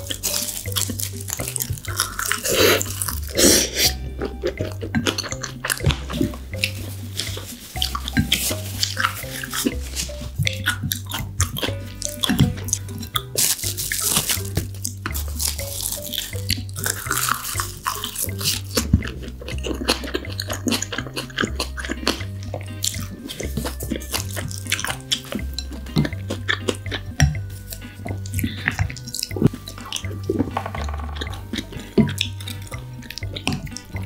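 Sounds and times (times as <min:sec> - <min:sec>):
bass background music: 0:00.0 - 0:34.0
wet chewing and smacking: 0:00.0 - 0:34.0.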